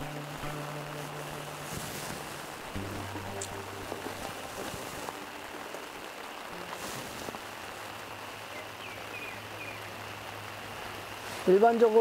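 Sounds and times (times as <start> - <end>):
rain falling on pond: 0.0 - 12.0.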